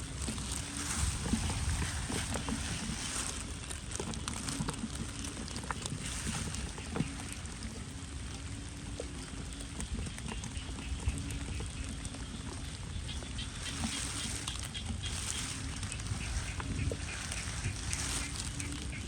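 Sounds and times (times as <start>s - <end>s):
raindrops ticking on surfaces: 0.0s - 19.0s
steady rain: 0.0s - 19.0s.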